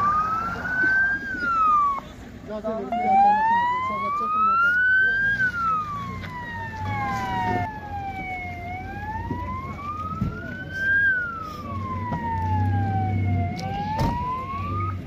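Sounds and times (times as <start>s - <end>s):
siren wailing: 0.0s - 2.2s, 2.8s - 15.0s.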